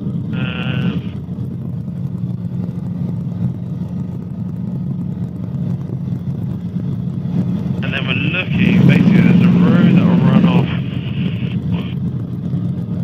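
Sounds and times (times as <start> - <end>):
helicopter engine and rotors droning: 0.0 - 13.0.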